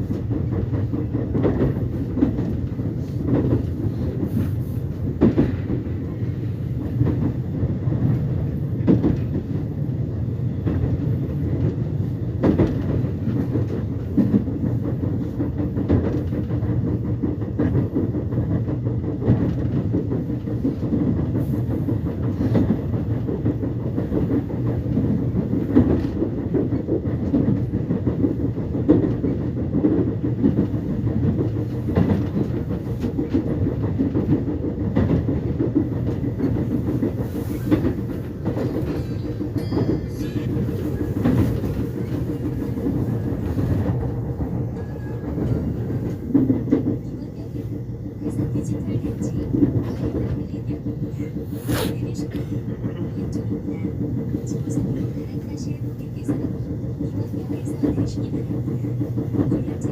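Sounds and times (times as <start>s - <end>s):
subway train rumble: 0.0s - 59.9s
wheels clacking on track: 0.0s - 59.9s.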